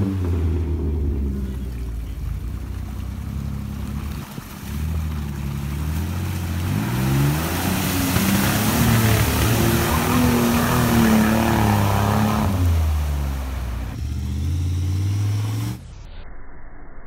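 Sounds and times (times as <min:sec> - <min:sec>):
tires slinging mud and water: 0:00.0 - 0:15.9.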